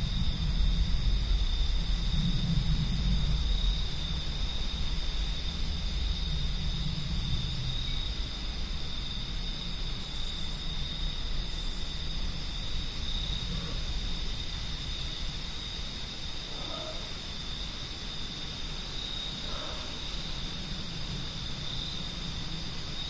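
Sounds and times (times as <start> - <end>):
night insects chirring: 0.0 - 23.0
night wind blowing: 0.0 - 23.0.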